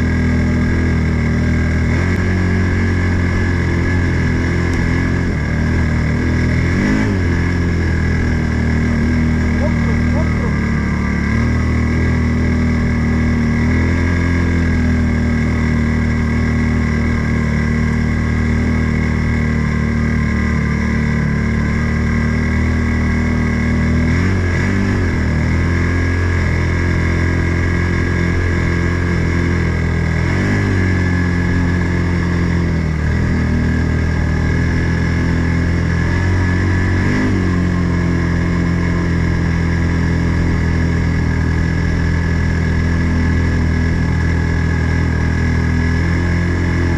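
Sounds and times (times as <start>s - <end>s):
off-road vehicle engine running: 0.0s - 46.9s.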